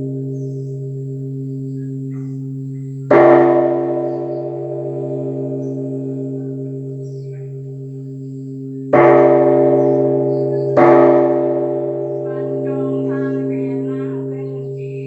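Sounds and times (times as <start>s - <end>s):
temple bell ringing: 0.0s - 15.0s.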